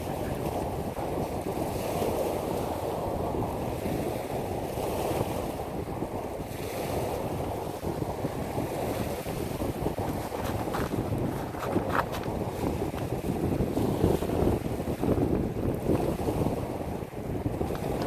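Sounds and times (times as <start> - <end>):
waves washing onto pebble beach: 0.0 - 18.0
wind rumbling on microphone: 0.0 - 18.0.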